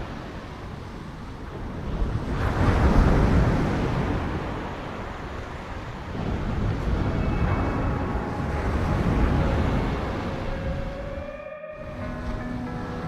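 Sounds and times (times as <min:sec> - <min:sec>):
sea waves breaking: 0:00.0 - 0:13.0.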